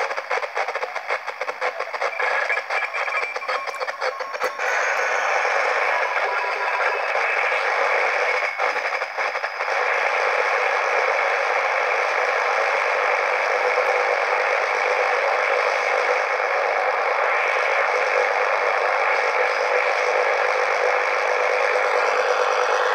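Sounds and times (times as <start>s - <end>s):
radio static hiss: 0.0s - 22.9s.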